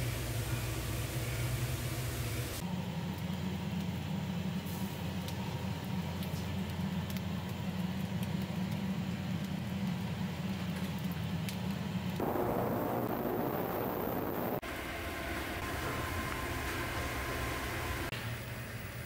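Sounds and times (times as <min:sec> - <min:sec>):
broth boiling with faint pops: 0:00.0 - 0:19.0
gas burners rumbling: 0:00.0 - 0:19.0.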